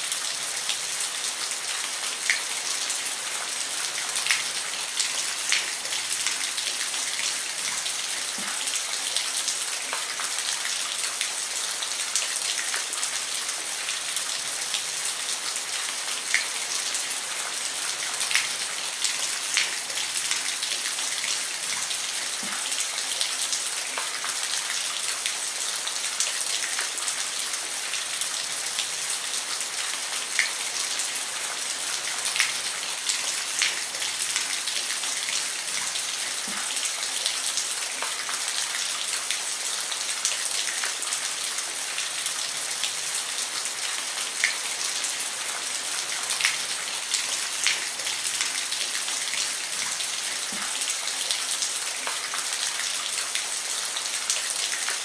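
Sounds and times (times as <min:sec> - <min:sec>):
rain hissing on a roof: 0:00.0 - 0:55.0.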